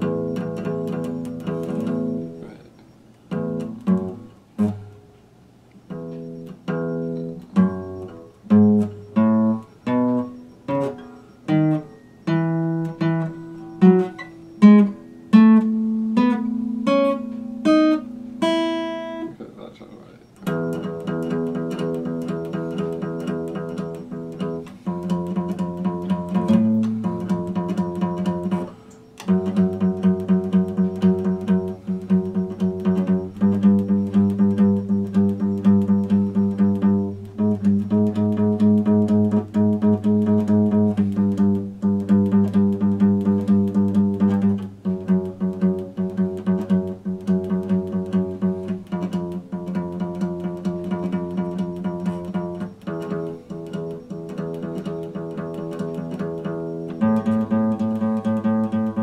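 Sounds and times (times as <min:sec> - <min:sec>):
fingerpicked acoustic guitar: 0:00.0 - 0:59.0.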